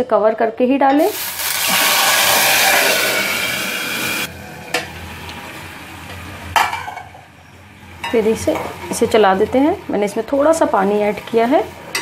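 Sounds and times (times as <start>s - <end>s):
spices sizzling in hot oil: 1.0s - 12.0s.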